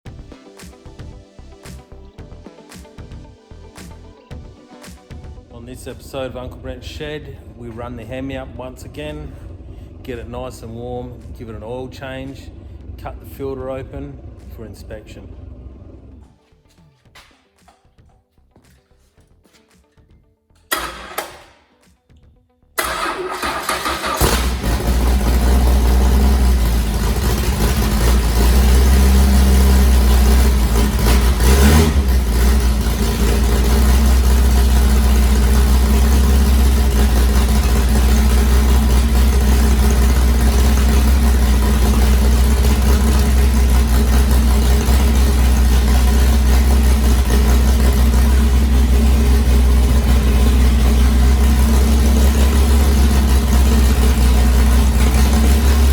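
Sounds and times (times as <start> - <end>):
engine cranking and idling: 5.2 - 17.8, 20.6 - 21.6, 22.8 - 55.9.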